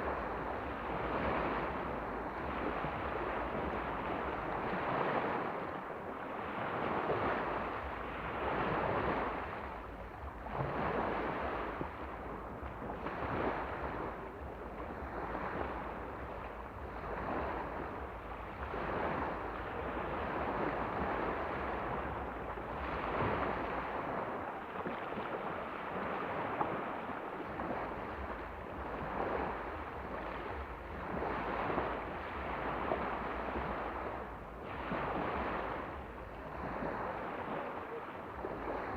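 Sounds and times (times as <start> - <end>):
waves washing onto shore: 0.0 - 38.9
wind rumbling on microphone: 0.0 - 38.9.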